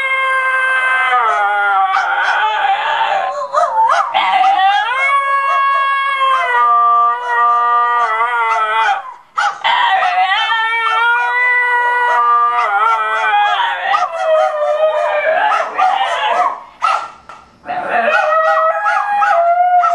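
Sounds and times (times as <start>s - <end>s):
dogs howling: 0.0s - 17.0s, 17.7s - 19.9s.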